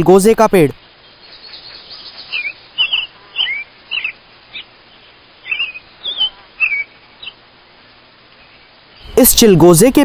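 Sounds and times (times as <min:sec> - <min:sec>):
small bird chirping: 0:00.8 - 0:09.2.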